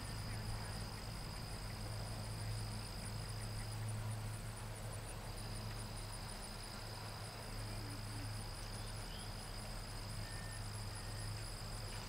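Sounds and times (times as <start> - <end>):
insects chirping: 0.0 - 12.0
low steady hum: 0.0 - 12.0.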